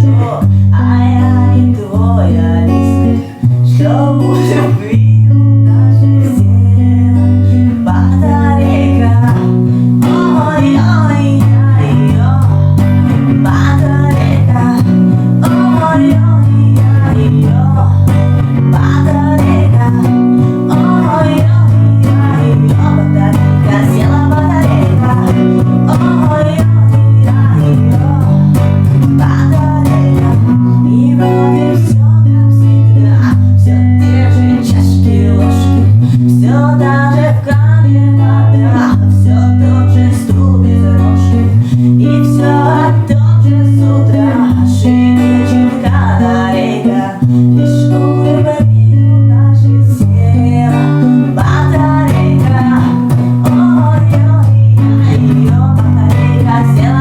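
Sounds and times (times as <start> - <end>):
strummed guitar: 0.0 - 57.0.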